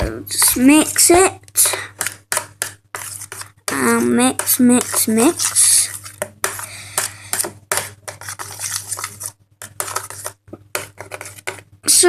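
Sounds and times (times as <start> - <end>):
slime being stirred in a bowl: 0.3 - 12.0.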